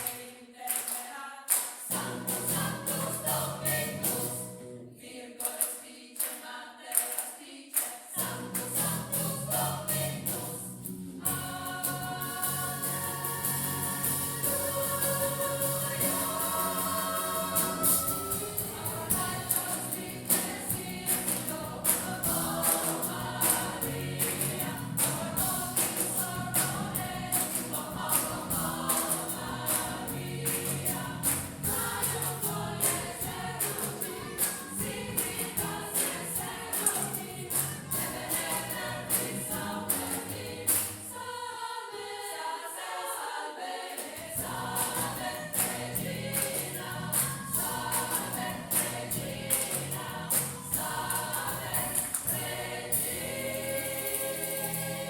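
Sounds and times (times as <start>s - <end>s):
choir singing gospel song: 0.0s - 55.0s.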